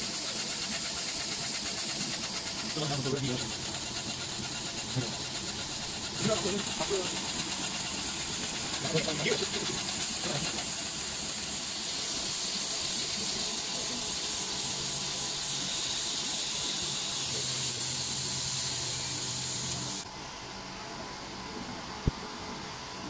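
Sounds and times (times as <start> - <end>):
laser engraver airy hiss: 0.0 - 20.1.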